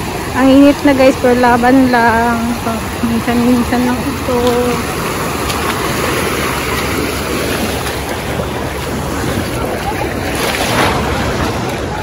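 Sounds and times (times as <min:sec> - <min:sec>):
small waves lapping: 0:00.0 - 0:12.0
wind buffeting the microphone: 0:00.0 - 0:12.0.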